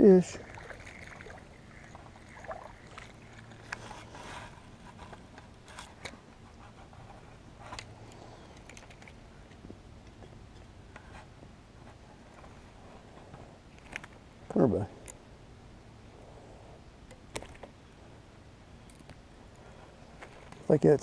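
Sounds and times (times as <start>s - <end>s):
rod and line handling rustles: 0.3s - 15.2s, 18.8s - 21.0s.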